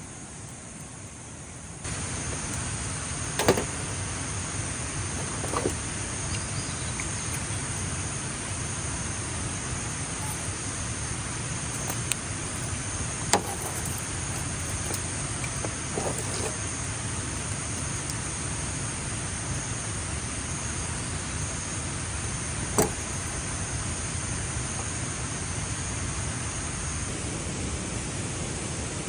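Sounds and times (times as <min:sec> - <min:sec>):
insects chirring: 0:00.0 - 0:27.1.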